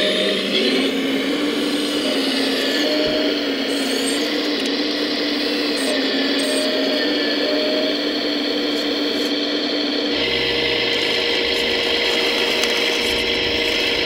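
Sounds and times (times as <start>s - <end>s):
electric hydraulic pump whining: 0.0s - 14.0s.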